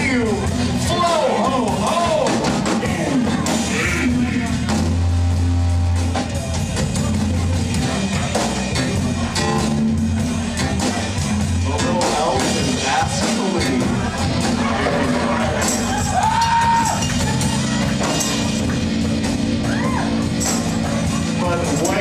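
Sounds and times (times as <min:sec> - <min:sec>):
bass notes: 0:00.0 - 0:22.0
drum kit beat: 0:00.0 - 0:22.0
guitar: 0:00.0 - 0:22.0.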